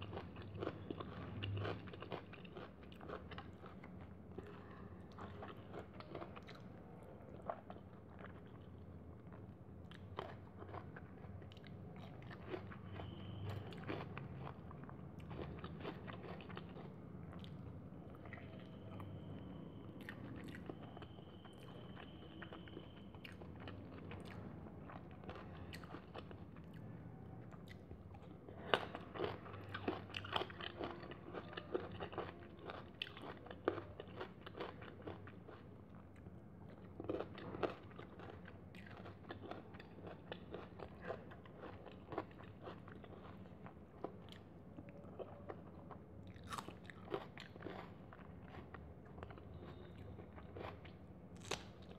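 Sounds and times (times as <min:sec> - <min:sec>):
crunchy chewing: 0:00.0 - 0:19.4, 0:20.0 - 0:51.9.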